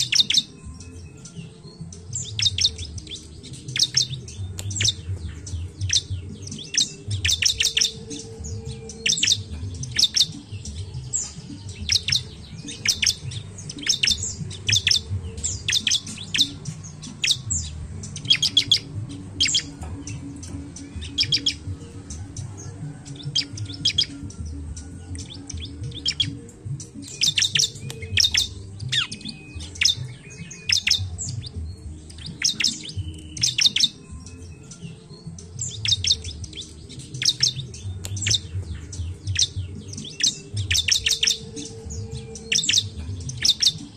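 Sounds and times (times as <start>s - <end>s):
bird chirping: 0.0s - 43.9s.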